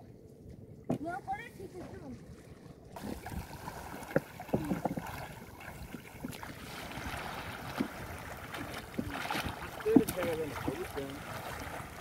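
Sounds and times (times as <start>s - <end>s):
people swimming and splashing: 0.0s - 12.0s.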